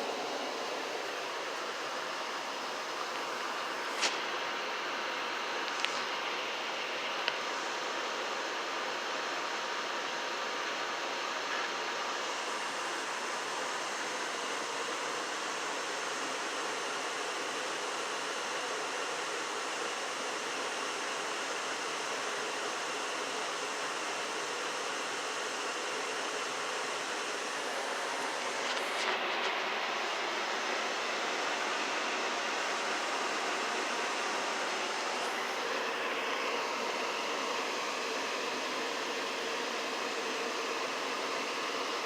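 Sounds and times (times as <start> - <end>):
furnace rushing air and burner: 0.0 - 42.0.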